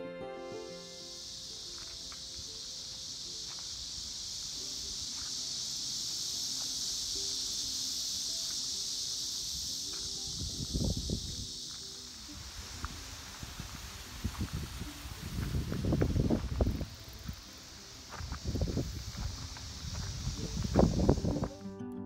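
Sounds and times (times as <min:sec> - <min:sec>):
insects chirping chorus: 0:00.0 - 0:21.6.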